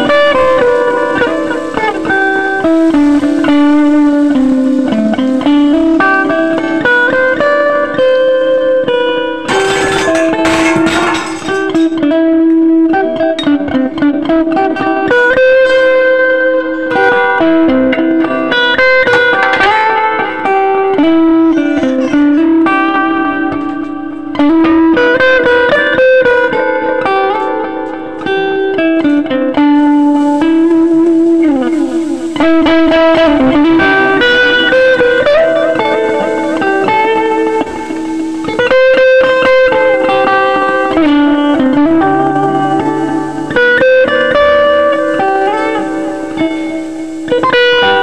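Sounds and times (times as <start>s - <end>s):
plucked guitar music: 0.0s - 48.0s.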